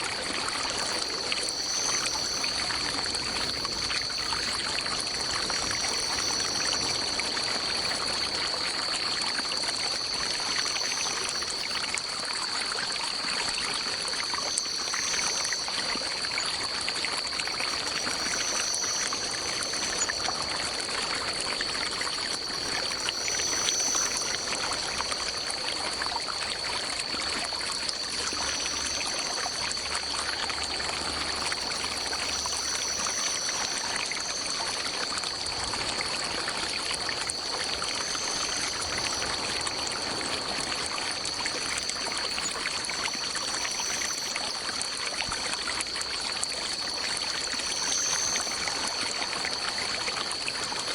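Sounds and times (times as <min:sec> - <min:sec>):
constant high-pitched drone: 0:00.0 - 0:50.9
stream water trickling: 0:00.0 - 0:50.9.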